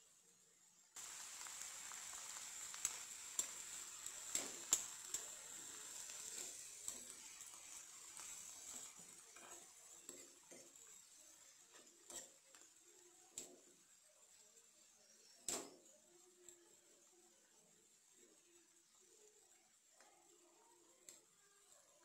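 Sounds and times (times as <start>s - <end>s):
vegetables sizzling in oil: 0.2s - 22.0s.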